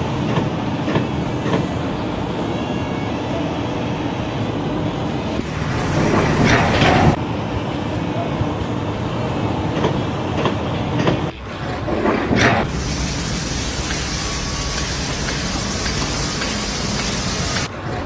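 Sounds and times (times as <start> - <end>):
heavy mechanical noise: 0.0 - 18.0.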